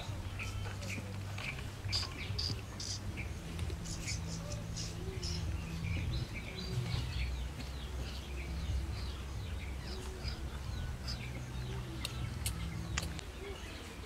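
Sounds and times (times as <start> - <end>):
steady low rumble: 0.0 - 13.5
small birds chirping: 0.0 - 14.0.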